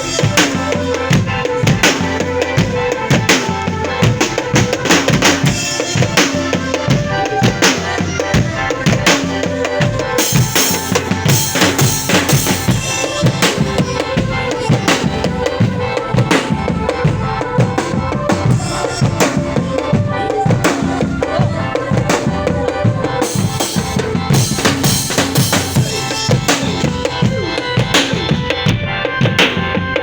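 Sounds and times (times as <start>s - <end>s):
wavering melody line: 0.0s - 28.6s
drums beating a busy rhythm: 0.0s - 30.0s.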